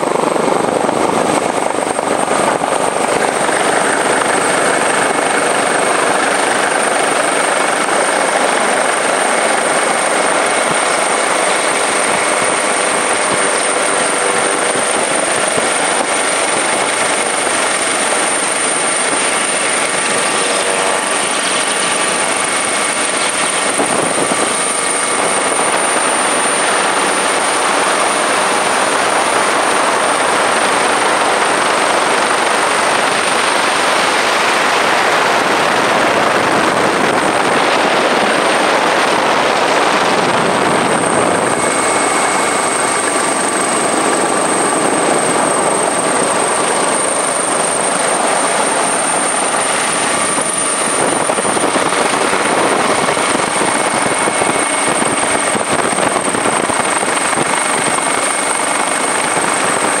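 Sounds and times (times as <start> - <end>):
helicopter engine and rotors: 0.0 - 60.0
high whine: 0.0 - 60.0.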